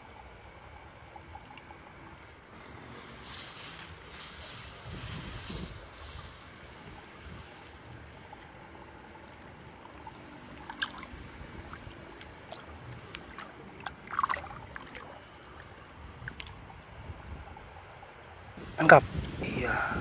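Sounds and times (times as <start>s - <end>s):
water splashing and sloshing: 0.9s - 18.0s
wind rumble on microphone: 4.0s - 20.0s.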